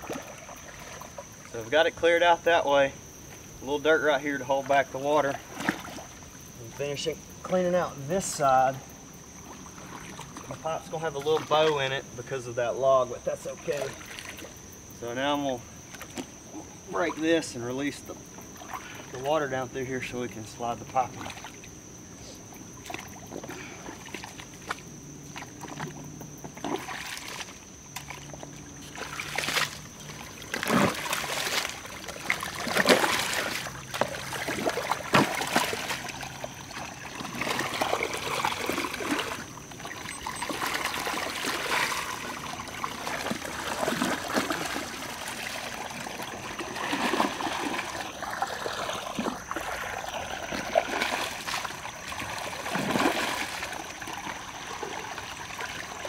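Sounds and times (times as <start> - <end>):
water splashing: 0.0 - 2.8, 3.6 - 12.5, 13.1 - 21.8, 22.6 - 56.0
water trickling: 0.0 - 56.0.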